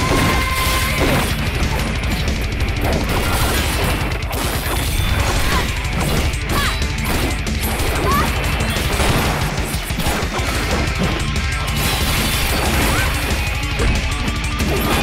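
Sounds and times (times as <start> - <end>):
driving score music: 0.0 - 3.2, 3.8 - 15.0
robots crashing: 0.0 - 15.0.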